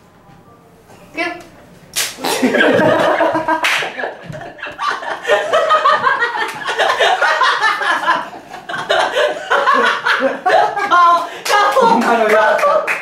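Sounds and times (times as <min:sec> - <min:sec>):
people laughing: 0:02.2 - 0:12.9.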